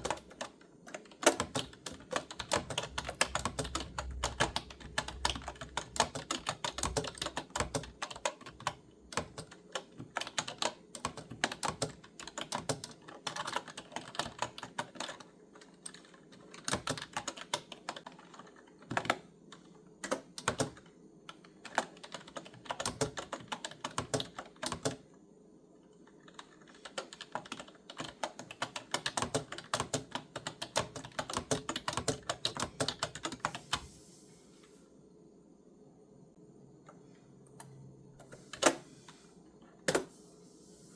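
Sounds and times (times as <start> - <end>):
clicky keyboard typing: 0.0 - 25.0, 26.1 - 33.9.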